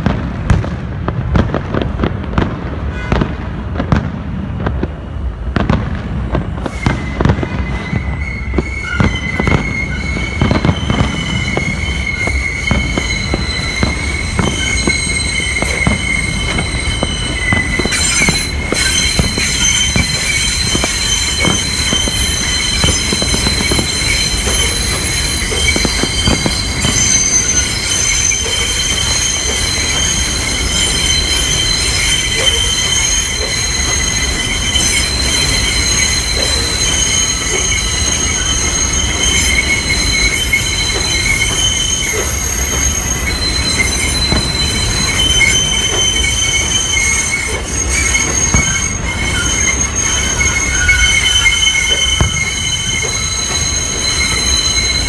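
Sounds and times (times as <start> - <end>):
train wheels squealing on rails: 4.6 - 55.0.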